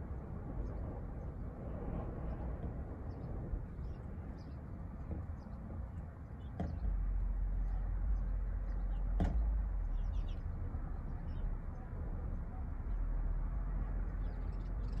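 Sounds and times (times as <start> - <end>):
low rumble: 0.0 - 15.0
small birds chirping: 3.0 - 15.0.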